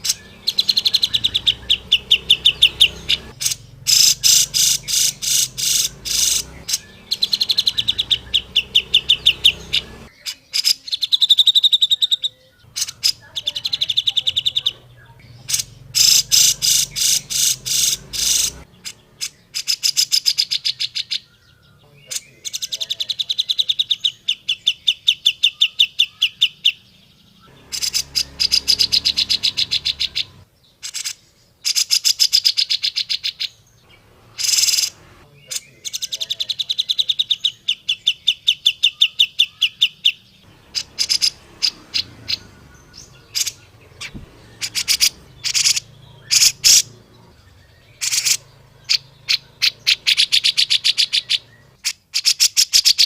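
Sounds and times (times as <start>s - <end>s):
bird chattering calls: 0.0s - 26.8s, 27.4s - 53.0s.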